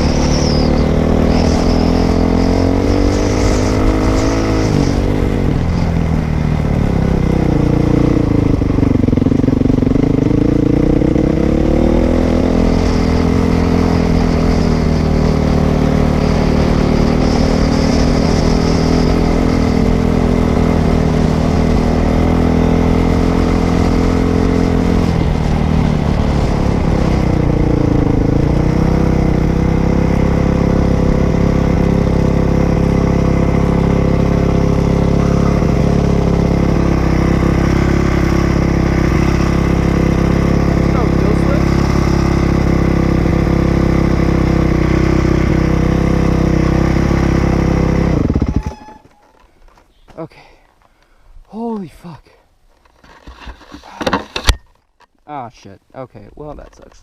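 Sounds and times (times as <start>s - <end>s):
dirt bike engine revving: 0.0s - 49.4s.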